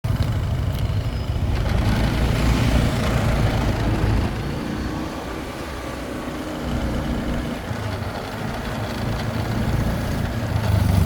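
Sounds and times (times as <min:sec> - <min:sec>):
road and wind noise: 0:00.0 - 0:11.0
motorcycle engine running: 0:00.1 - 0:11.0.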